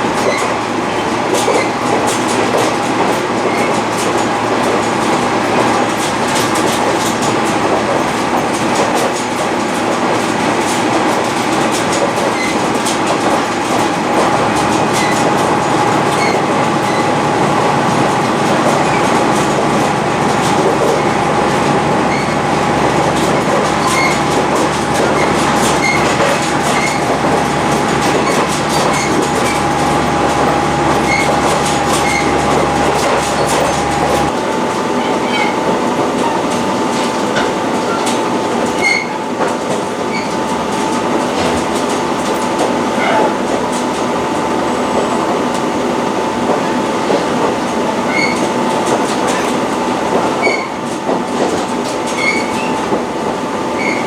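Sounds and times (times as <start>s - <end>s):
rail joint clicks: 0.0s - 54.0s
train rumble: 0.0s - 54.0s
train whine: 0.0s - 54.0s.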